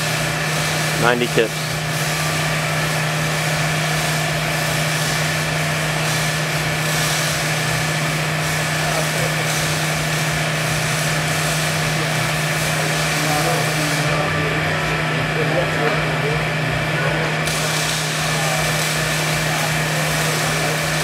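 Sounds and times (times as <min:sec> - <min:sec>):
hydraulic pump hum and hiss: 0:00.0 - 0:21.0.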